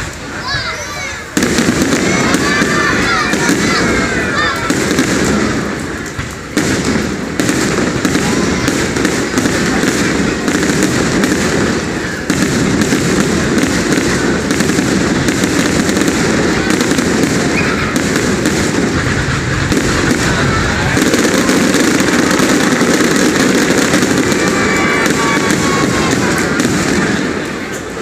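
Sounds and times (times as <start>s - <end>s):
fireworks bangs and crackling: 0.0s - 28.0s.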